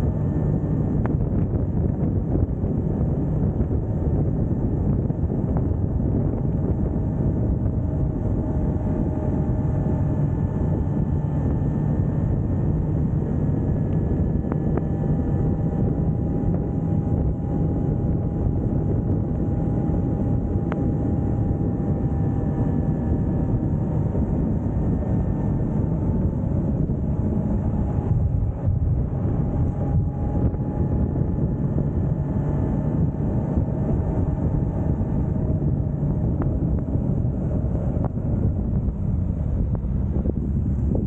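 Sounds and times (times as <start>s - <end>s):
motorbike engine running: 0.0s - 41.0s
wind on microphone: 0.0s - 41.0s.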